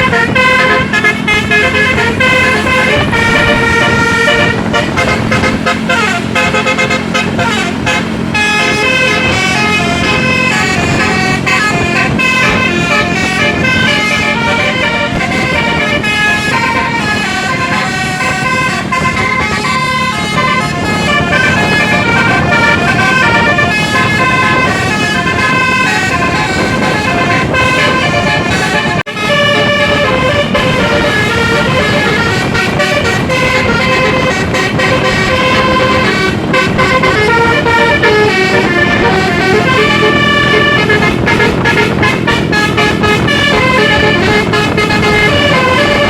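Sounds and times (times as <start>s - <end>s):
bus running hum: 0.0s - 46.0s
musical air horn melody: 0.0s - 46.0s.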